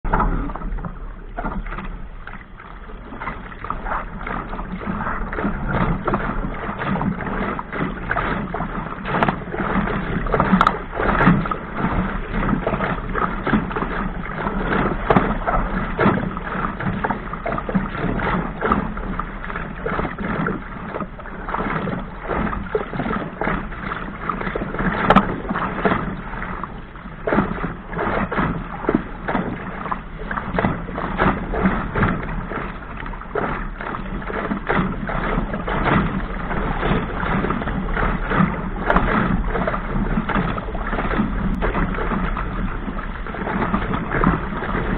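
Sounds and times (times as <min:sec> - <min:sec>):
hull slapping through waves: 0:00.0 - 0:44.9
water rushing along hull: 0:00.0 - 0:44.9.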